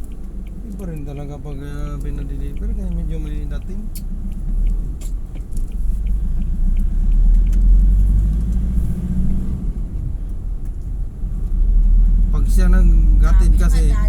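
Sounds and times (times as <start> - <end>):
car rumbling in motion: 0.0 - 14.0.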